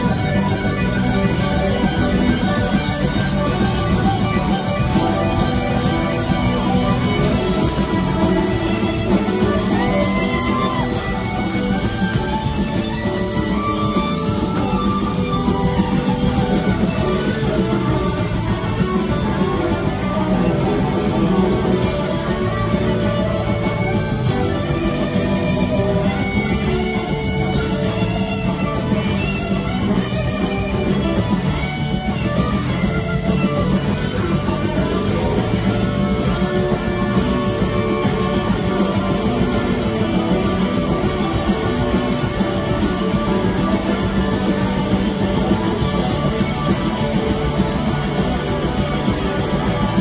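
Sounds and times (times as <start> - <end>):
electric guitars: 0.0 - 50.0
live rock band playing: 0.0 - 50.0.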